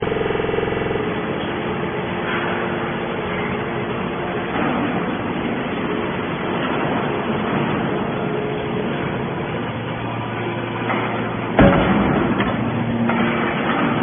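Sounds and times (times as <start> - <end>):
pitched machine hum: 0.0 - 14.0
scrap metal baler rumbling: 0.0 - 14.0.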